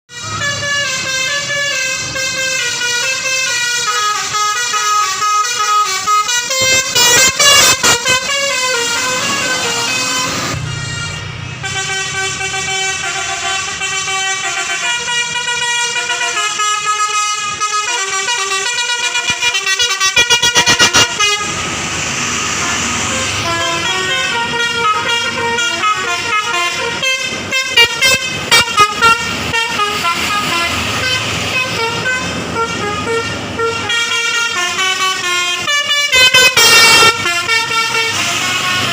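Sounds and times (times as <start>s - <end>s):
musical air horn playing tunes: 0.1s - 38.9s.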